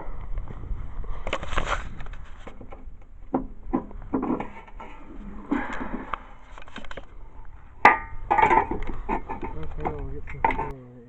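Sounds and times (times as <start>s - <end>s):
scraping rustle: 0.4s - 3.0s, 3.6s - 10.7s
objects knocking and clattering: 1.3s - 10.7s.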